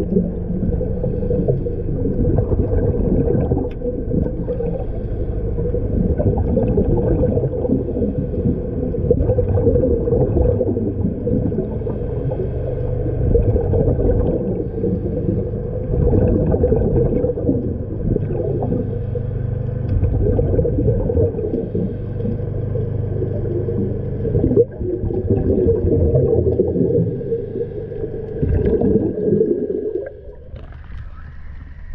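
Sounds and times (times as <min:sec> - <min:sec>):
steady hum: 0:00.0 - 0:31.9
underwater rumble and gurgling: 0:00.0 - 0:31.9.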